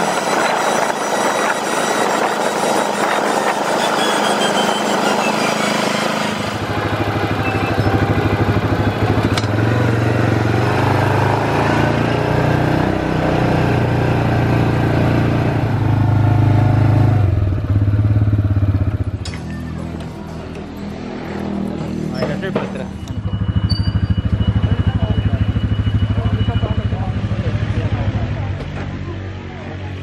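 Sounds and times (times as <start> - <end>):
utility vehicle engine under load: 0.0 - 29.2.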